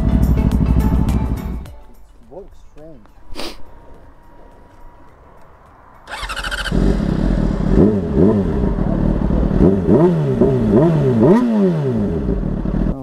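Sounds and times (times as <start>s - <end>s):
motorcycle engine revving: 0.0s - 1.7s, 3.7s - 13.0s.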